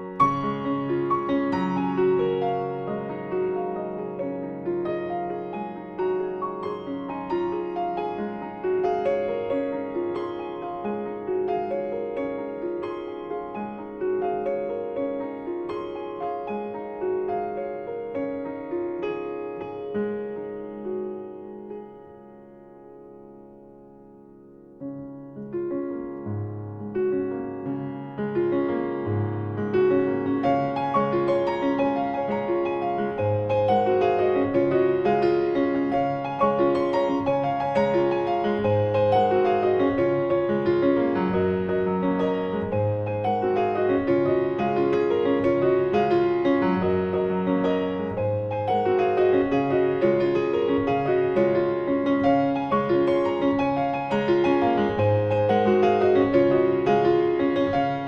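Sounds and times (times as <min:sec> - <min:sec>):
piano music: 0:00.0 - 0:58.0.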